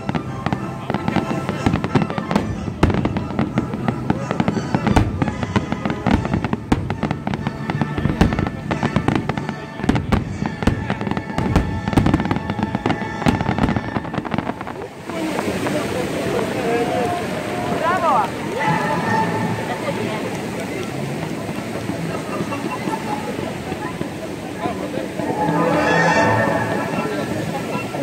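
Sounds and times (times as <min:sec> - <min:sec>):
music: 0:00.0 - 0:14.6, 0:18.6 - 0:28.0
fireworks bursting: 0:00.0 - 0:28.0.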